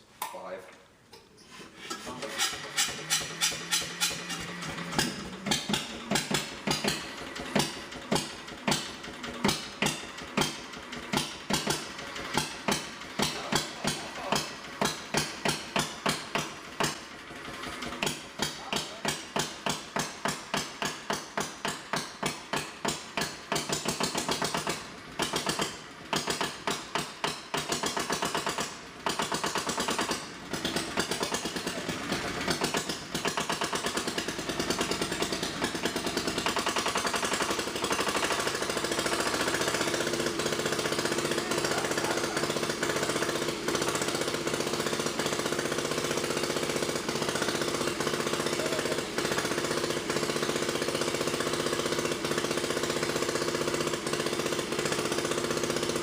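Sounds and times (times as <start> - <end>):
diesel generator chugging: 1.7 - 56.0.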